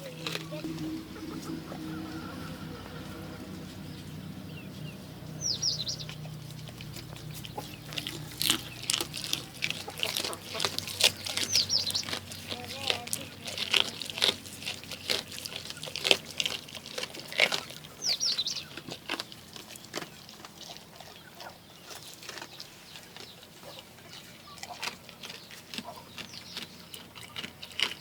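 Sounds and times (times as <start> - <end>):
goat crunching food: 0.0 - 28.0.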